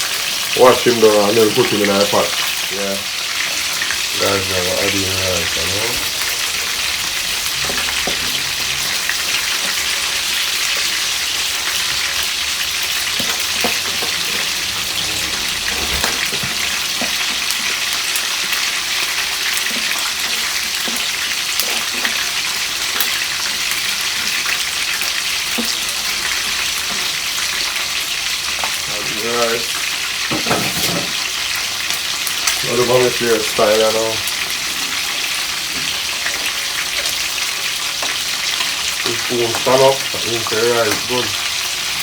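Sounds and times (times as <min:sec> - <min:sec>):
chicken sizzling in hot oil: 0:00.0 - 0:42.0
oil popping and crackling: 0:00.0 - 0:42.0.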